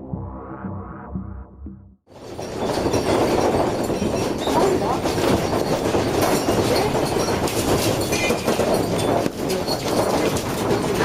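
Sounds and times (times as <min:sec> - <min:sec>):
rattling and clattering: 0:02.1 - 0:11.0.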